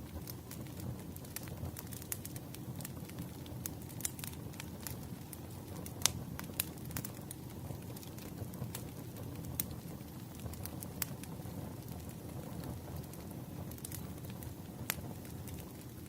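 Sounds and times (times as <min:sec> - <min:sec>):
fire popping and snapping: 0:00.0 - 0:16.0
wood fire crackling: 0:00.0 - 0:16.0.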